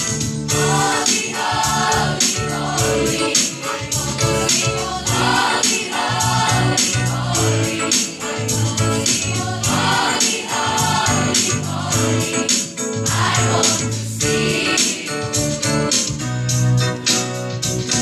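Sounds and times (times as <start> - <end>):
instrumental accompaniment with bass: 0.0 - 18.0
choir singing gospel song: 0.4 - 16.1.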